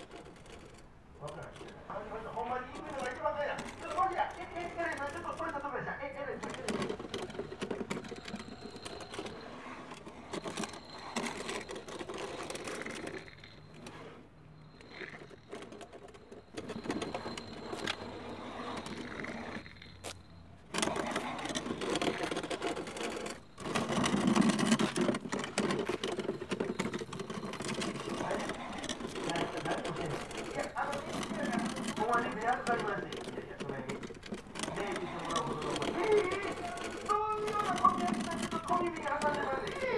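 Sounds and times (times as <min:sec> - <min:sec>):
faint steady high tone: 0:00.0 - 0:39.9
wooden chest scraping on asphalt: 0:00.0 - 0:39.9.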